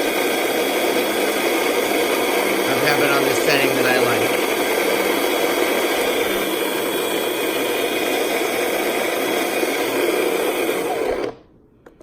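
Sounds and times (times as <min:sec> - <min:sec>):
electric grinder grinding seeds: 0:00.0 - 0:11.5.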